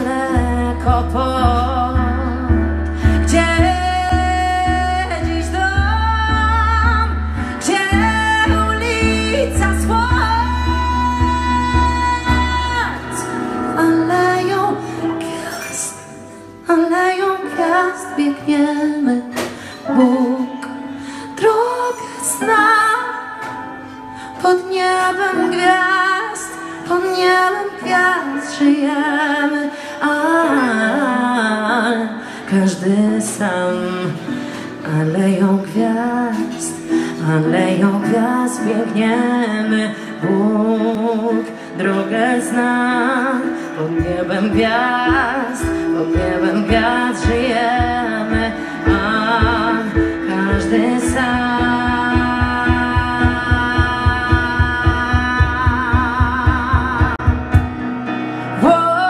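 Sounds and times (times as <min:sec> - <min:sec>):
instrumental backing: 0:00.0 - 0:59.0
woman singing with vibrato: 0:00.0 - 0:59.0.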